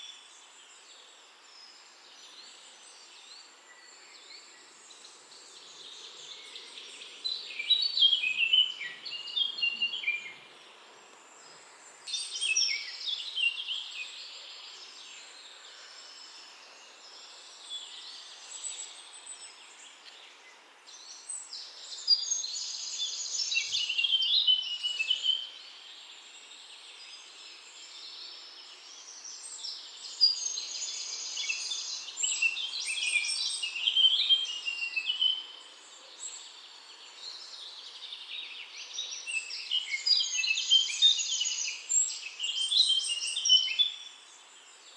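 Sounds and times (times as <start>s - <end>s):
songbird singing: 0.0s - 44.9s
steady background hiss: 0.0s - 44.9s.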